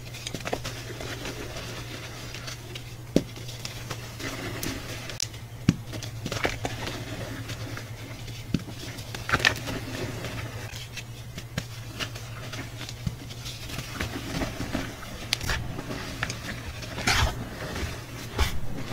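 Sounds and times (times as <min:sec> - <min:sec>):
chalk crunching and crackling: 0:00.0 - 0:18.9
steady low hum: 0:00.0 - 0:18.9.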